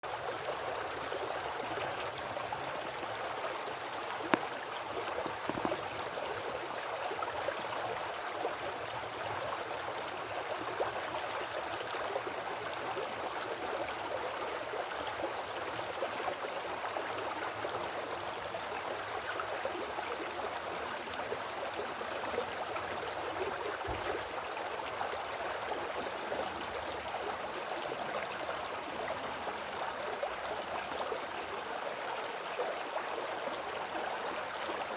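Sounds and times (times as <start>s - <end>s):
creek water rushing and gurgling: 0.0s - 34.9s.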